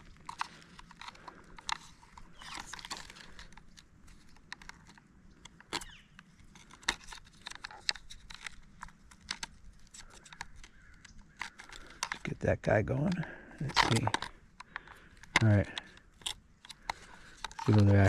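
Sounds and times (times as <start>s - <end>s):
plastic parts clicking and scraping: 0.0s - 18.0s.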